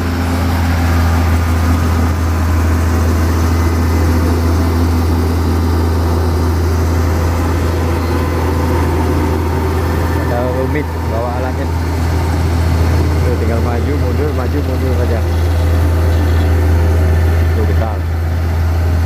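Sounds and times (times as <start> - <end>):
road roller engine droning: 0.0 - 19.0.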